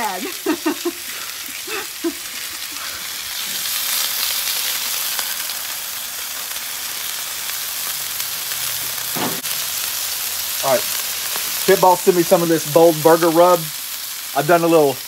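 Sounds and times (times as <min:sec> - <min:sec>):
burger patties sizzling on griddle: 0:00.0 - 0:15.0.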